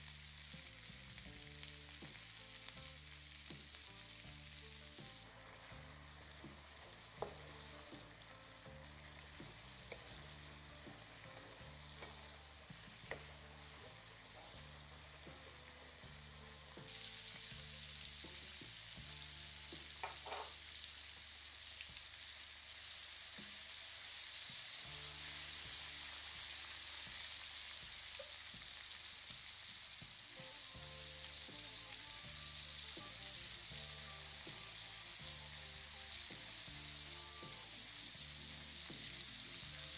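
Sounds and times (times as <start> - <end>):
mushrooms sizzling in oil: 0.0 - 39.9.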